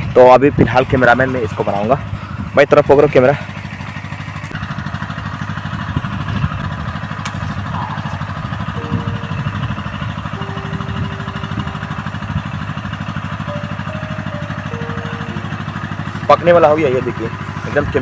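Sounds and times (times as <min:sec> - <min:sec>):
small engine idling: 0:03.2 - 0:18.0.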